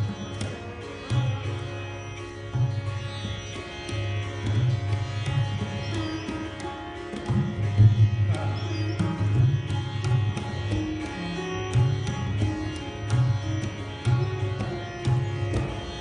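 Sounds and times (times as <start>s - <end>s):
sitar melody: 0.0s - 16.0s
tabla strokes: 0.0s - 16.0s.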